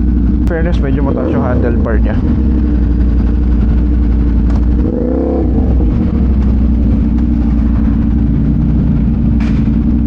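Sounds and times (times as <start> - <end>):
motorcycle engine revving: 0.0 - 10.0
motorcycle engines running: 0.0 - 10.0.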